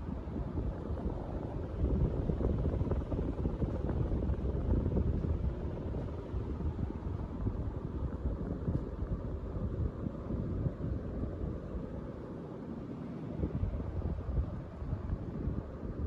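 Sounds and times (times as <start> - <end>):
ceiling fan air rush: 0.0 - 16.0.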